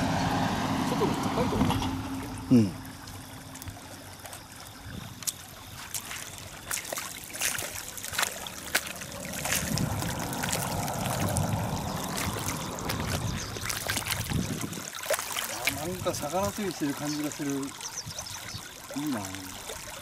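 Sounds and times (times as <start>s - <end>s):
river water running and lapping: 0.0s - 20.0s.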